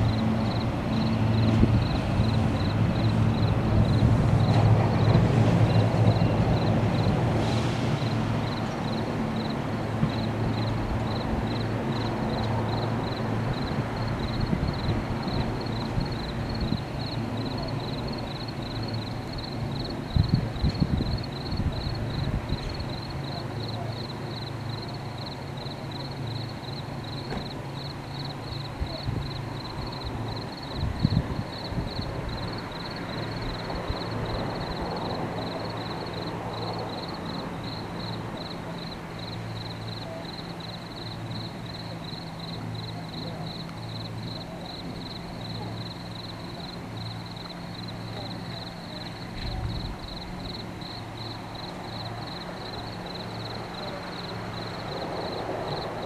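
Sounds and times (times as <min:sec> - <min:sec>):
night insects calling: 0:00.0 - 0:56.0.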